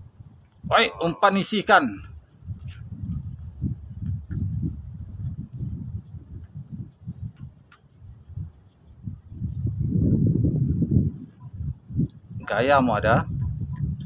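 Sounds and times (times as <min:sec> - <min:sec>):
insect chorus pulsing: 0:00.0 - 0:14.0
wind buffeting microphone: 0:00.0 - 0:14.0.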